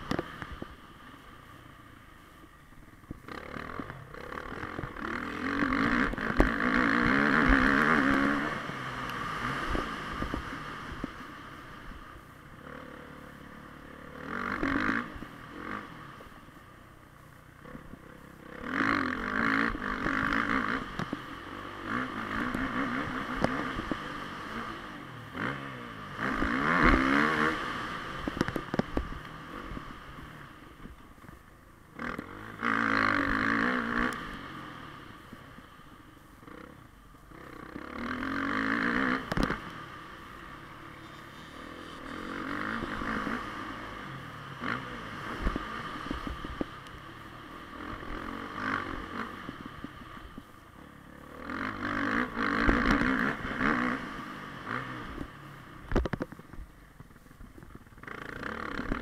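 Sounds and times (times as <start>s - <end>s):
dirt bike engine revving: 3.2s - 16.3s, 17.5s - 30.6s, 31.9s - 35.4s, 36.4s - 55.4s, 58.0s - 59.0s.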